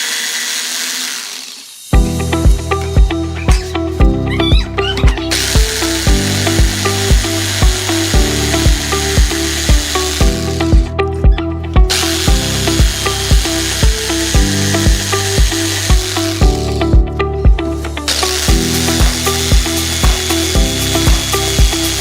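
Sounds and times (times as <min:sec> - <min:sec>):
power tool cutting: 0:00.0 - 0:22.0
music with steady beat: 0:02.0 - 0:22.0.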